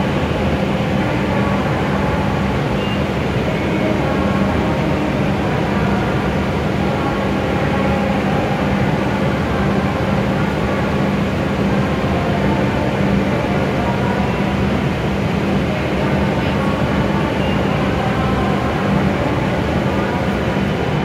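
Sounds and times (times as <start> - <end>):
train equipment humming: 0.0 - 21.0.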